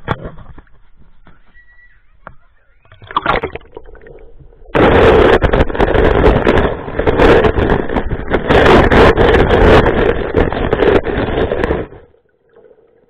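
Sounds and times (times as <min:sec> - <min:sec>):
muffled underwater stream rushing: 0:00.0 - 0:13.0
water splashing: 0:00.0 - 0:13.0.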